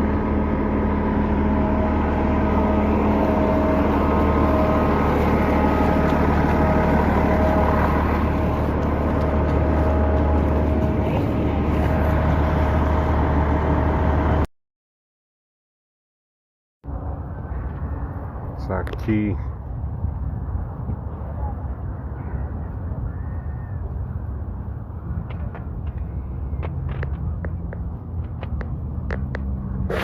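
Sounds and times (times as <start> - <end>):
engine running with low rumble: 0.0 - 14.5, 16.8 - 30.0.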